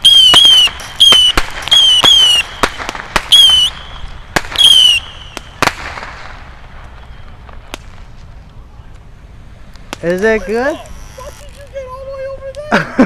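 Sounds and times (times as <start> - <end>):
fireworks whistling: 0.0 - 8.9, 9.6 - 12.5
fireworks cracking: 0.0 - 13.0.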